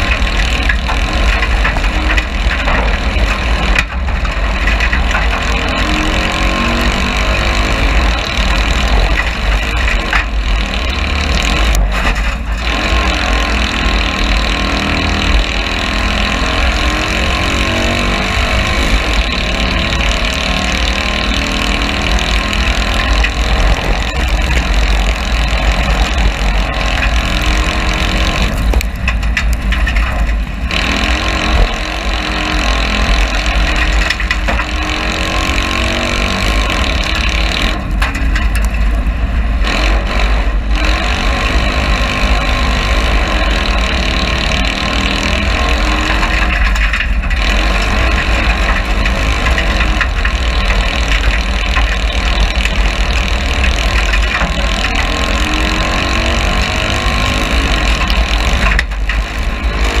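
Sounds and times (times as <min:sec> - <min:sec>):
car engine running flat out: 0:00.0 - 1:00.0
heavy low rumble: 0:00.0 - 1:00.0.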